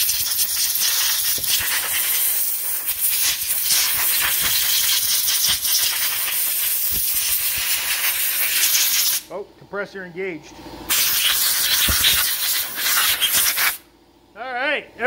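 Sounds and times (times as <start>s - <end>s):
compressed air blowgun hissing: 0.0s - 9.3s, 10.9s - 13.8s.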